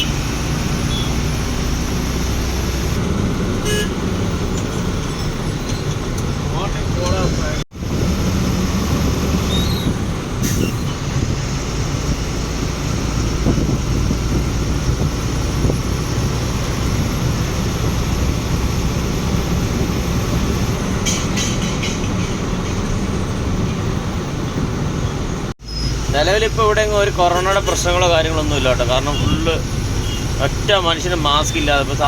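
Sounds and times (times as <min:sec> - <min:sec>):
truck engine and road rumble: 0:00.0 - 0:32.0.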